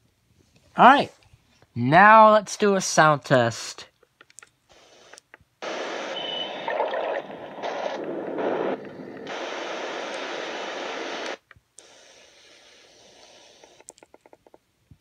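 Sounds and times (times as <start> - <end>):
faint radio hiss: 0.0 - 4.0, 4.6 - 13.9
white noise hiss from speaker: 0.0 - 14.0.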